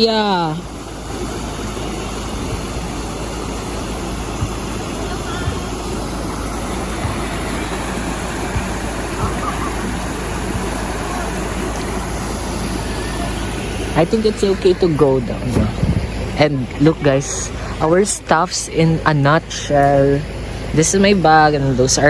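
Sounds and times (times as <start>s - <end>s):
faint voices: 0.0s - 22.0s
moving vehicle rumble: 0.0s - 22.0s.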